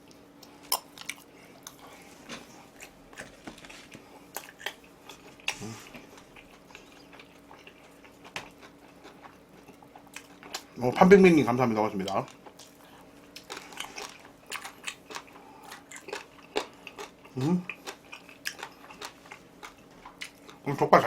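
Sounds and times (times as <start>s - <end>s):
close chewing: 0.0s - 10.7s, 12.1s - 20.7s.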